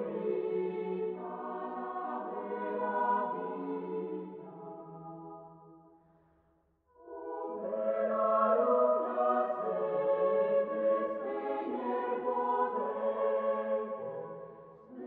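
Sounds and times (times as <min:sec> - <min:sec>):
choir singing sustained chords: 0:00.0 - 0:06.2, 0:06.9 - 0:15.0.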